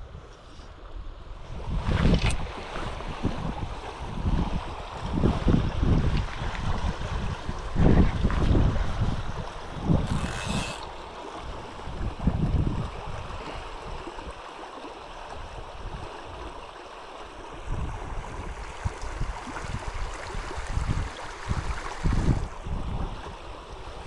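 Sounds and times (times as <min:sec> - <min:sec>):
river water flowing: 0:00.0 - 0:24.0
wind buffeting microphone: 0:01.4 - 0:14.3, 0:17.6 - 0:24.0.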